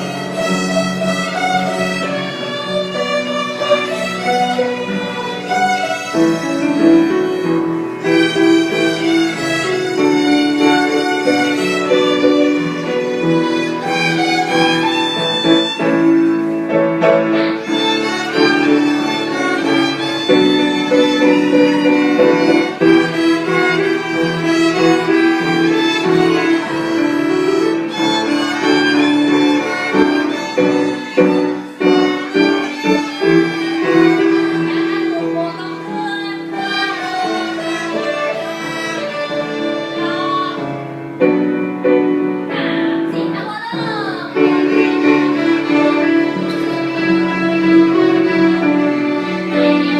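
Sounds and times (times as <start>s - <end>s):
violin playing: 0.0s - 49.9s.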